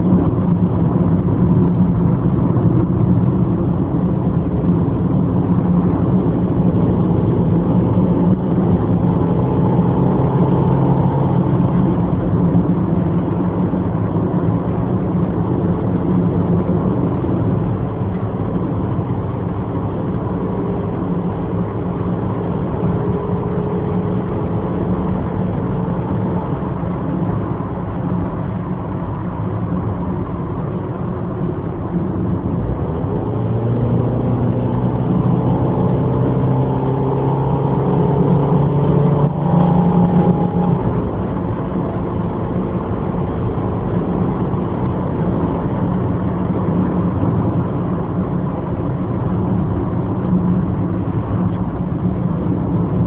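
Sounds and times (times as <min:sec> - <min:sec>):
car engine running: 0:00.0 - 0:53.0
road noise: 0:00.0 - 0:53.0.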